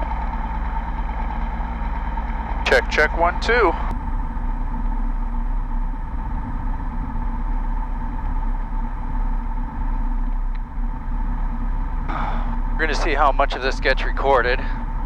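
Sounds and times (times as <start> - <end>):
piston engine idling: 0.0 - 15.0.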